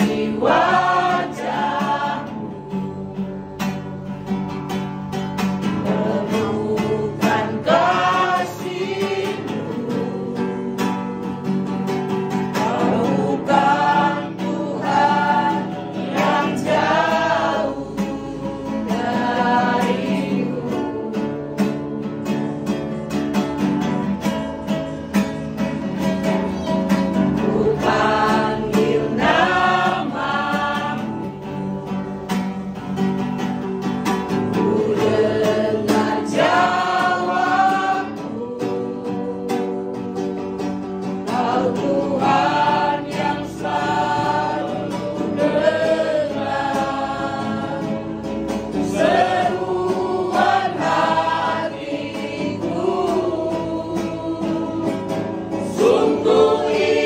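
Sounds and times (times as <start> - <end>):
group singing praise song: 0.0 - 57.0
guitar accompaniment: 0.0 - 57.0.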